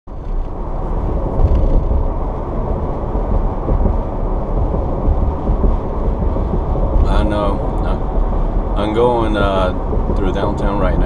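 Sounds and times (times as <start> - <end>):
road and engine rumble inside cab: 0.1 - 11.0.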